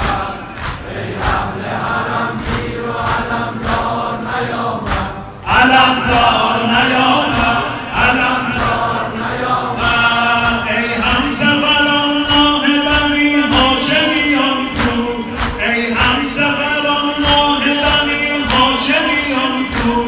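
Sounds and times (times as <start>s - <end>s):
men chanting a lament: 0.0s - 20.0s.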